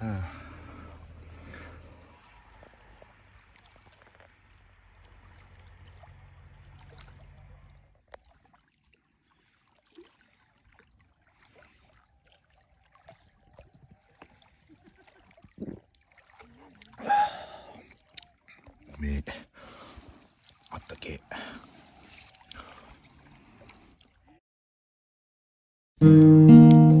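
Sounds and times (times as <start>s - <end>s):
water trickling: 0.0s - 19.0s, 19.6s - 24.3s
small water splashes: 0.0s - 24.4s.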